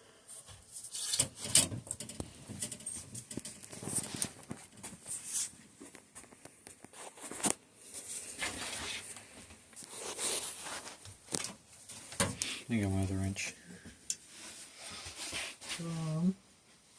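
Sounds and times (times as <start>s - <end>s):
rustling and scraping: 0.3s - 12.6s, 14.2s - 16.2s.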